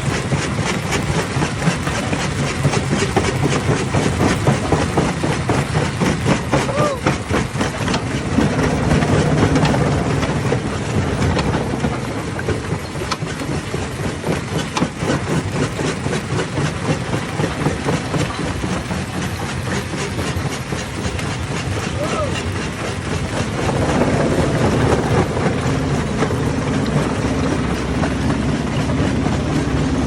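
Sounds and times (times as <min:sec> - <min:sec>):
stone crusher drone: 0:00.0 - 0:30.0.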